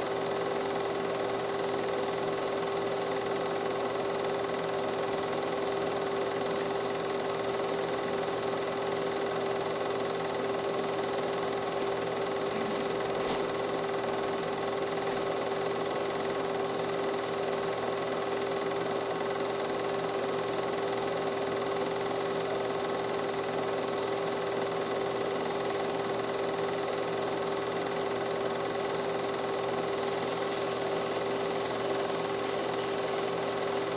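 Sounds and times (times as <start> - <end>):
film projector whirring: 0.0 - 33.9.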